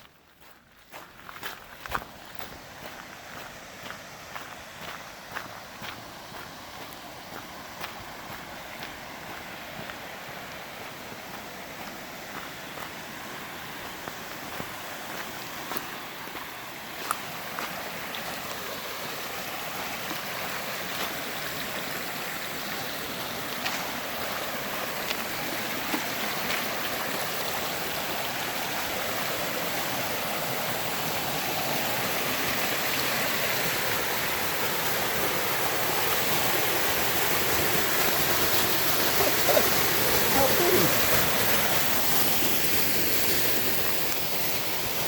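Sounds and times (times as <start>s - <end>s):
waterfall rushing: 2.8s - 45.0s.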